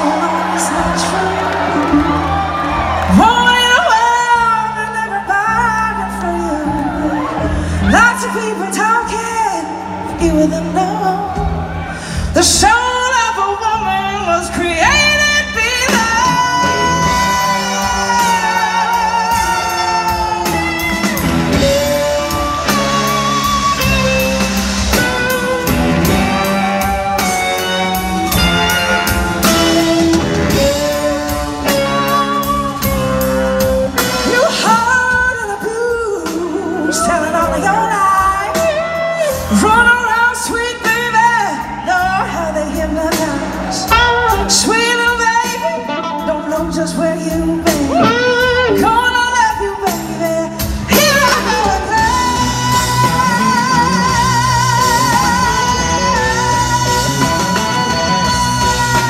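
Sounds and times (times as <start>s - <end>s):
bass: 0.0s - 59.0s
drums: 0.0s - 59.0s
guitar: 0.0s - 59.0s
woman singing: 0.0s - 59.0s.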